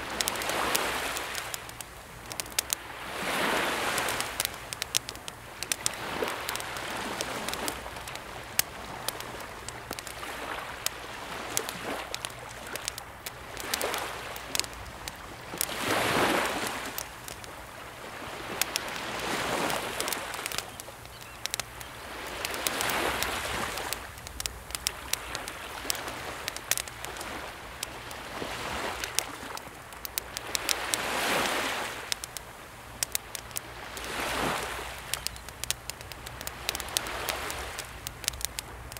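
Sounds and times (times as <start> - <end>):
campfire crackling: 0.0 - 38.9
sea waves washing in: 0.0 - 38.9.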